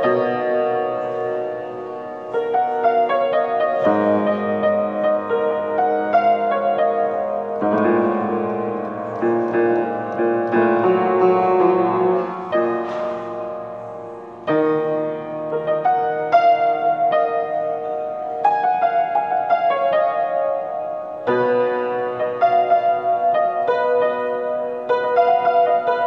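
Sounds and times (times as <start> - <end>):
upright piano chords: 0.0 - 26.0.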